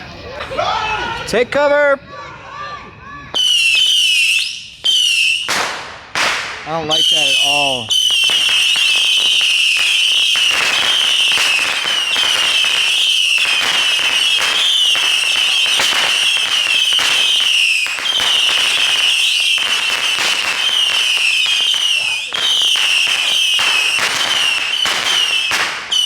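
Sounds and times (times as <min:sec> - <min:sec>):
firecracker pops crackling: 0:03.4 - 0:26.0.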